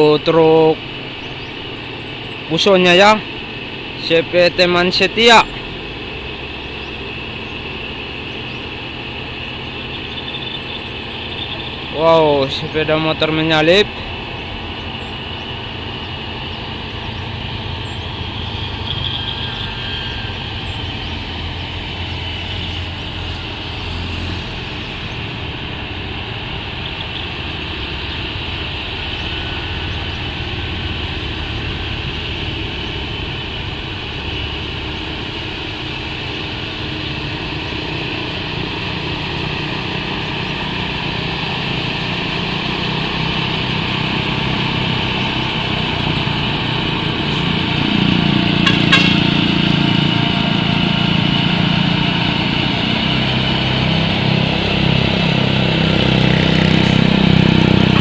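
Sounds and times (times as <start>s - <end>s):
diesel truck engine climbing: 0.0s - 58.0s
engine hiss: 0.0s - 58.0s.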